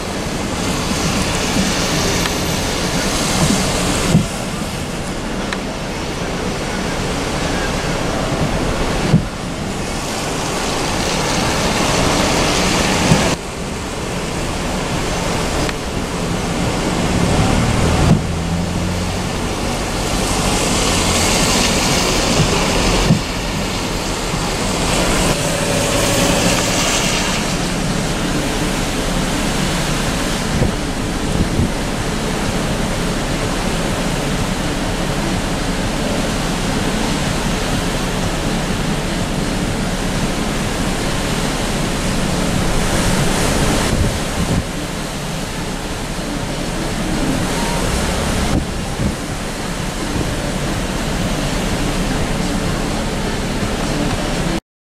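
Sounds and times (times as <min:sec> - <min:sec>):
rough breaking water: 0:00.0 - 0:54.6
storm wind: 0:00.0 - 0:54.6
wind buffeting microphone: 0:00.0 - 0:54.6.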